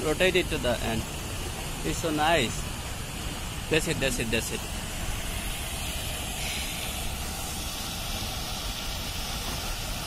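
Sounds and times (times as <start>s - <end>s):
fountain jets splashing: 0.0s - 10.0s.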